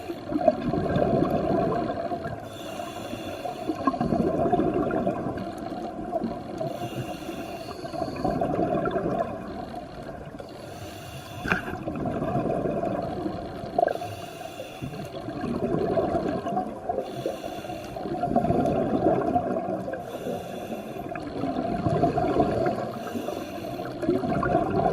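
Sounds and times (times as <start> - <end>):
underwater rushing and bubbling: 0.0 - 24.9.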